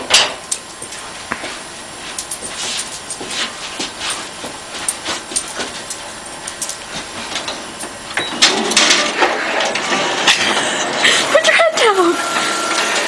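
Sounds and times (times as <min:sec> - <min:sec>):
photocopier whirring: 0:00.0 - 0:13.0.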